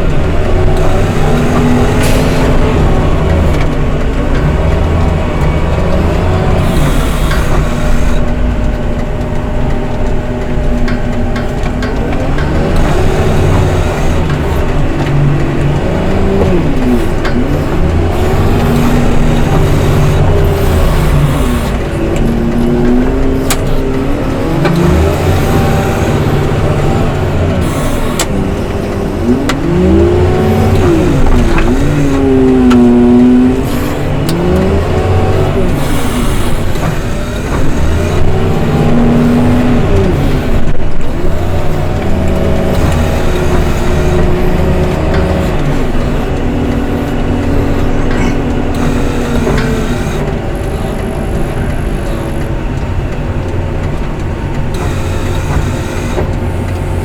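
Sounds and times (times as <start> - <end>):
snow-clearing machine engine revving: 0.0 - 57.0.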